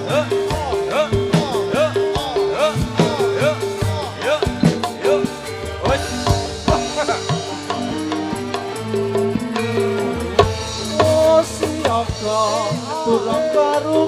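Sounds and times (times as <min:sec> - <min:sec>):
struck metallophone notes: 0:00.0 - 0:14.0
hand drum strokes: 0:00.1 - 0:14.0.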